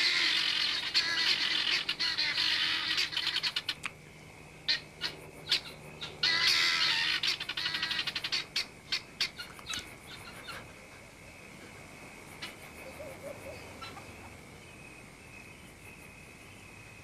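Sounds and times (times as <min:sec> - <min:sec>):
guineafowl alarm calls: 0:00.0 - 0:04.0, 0:04.6 - 0:16.1
insect chirring: 0:00.0 - 0:17.0.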